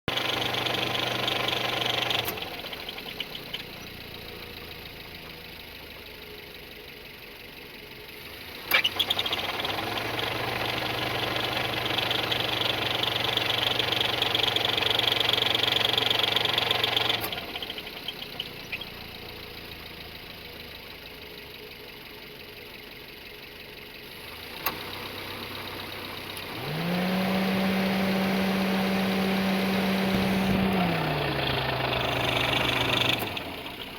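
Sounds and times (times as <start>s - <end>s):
car engine idling and revving: 0.0s - 33.9s
engine knocking: 0.1s - 33.9s.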